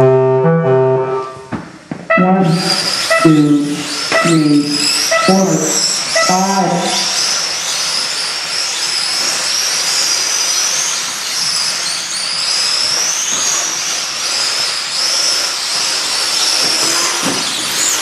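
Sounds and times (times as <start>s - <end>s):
electric model car motors whining: 2.5s - 18.0s.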